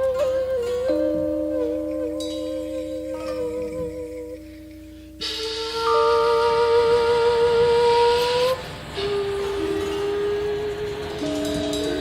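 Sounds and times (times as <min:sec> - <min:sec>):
slow sustained notes music: 0:00.0 - 0:12.0.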